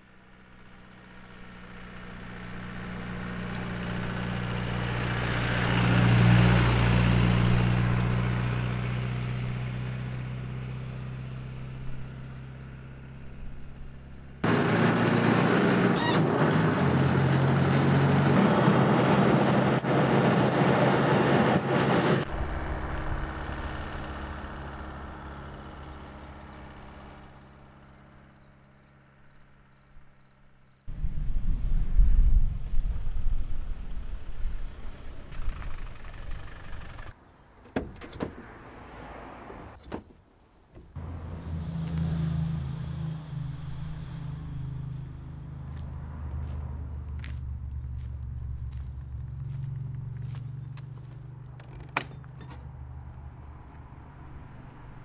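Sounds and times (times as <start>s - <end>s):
road noise: 0.0s - 55.0s
car engine driving by: 0.2s - 37.2s, 40.9s - 55.0s.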